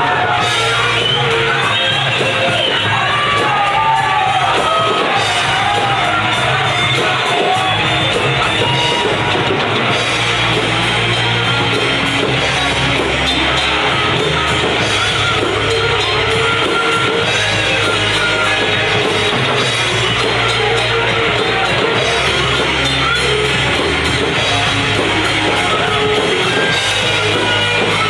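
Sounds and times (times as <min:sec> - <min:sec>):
drum hits: 0:00.0 - 0:28.0
rock band playing live: 0:00.0 - 0:28.0.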